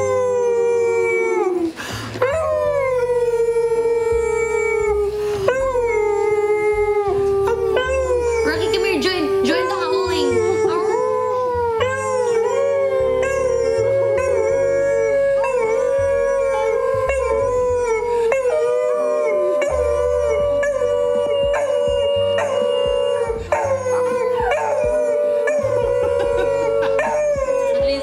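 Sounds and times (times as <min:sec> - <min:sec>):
dog howling: 0:00.0 - 0:28.0
people howling: 0:00.0 - 0:28.0.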